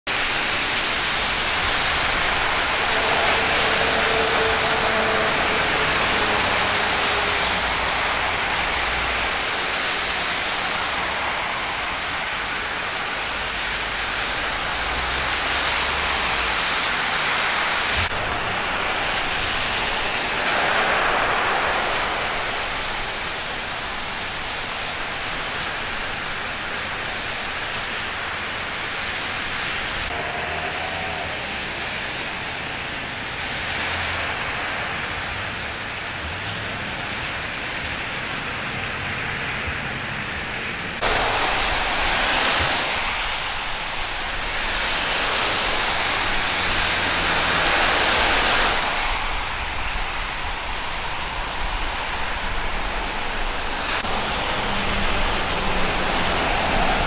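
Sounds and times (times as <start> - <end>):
tyres hissing through water: 0.1 - 57.0.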